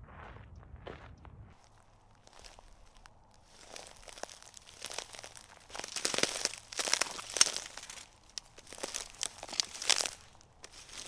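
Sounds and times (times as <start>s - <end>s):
footsteps crunching through dry grass: 0.0s - 11.0s.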